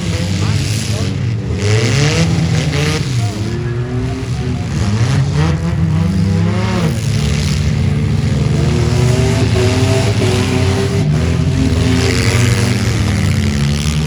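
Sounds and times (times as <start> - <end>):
truck engines running: 0.0 - 14.0.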